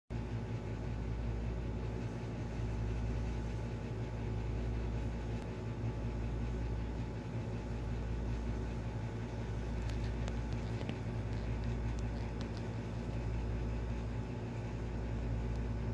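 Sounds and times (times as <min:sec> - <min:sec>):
low mechanical hum: 0:00.1 - 0:15.9.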